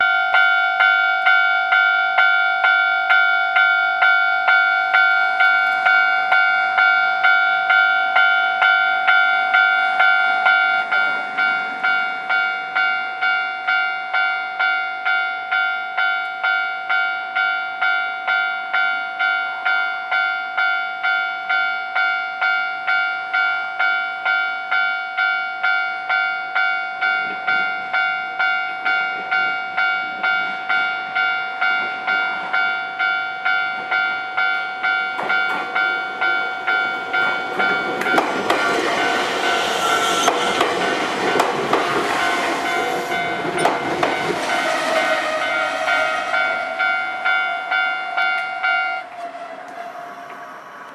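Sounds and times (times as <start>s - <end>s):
level crossing warning bell: 0.0s - 50.9s.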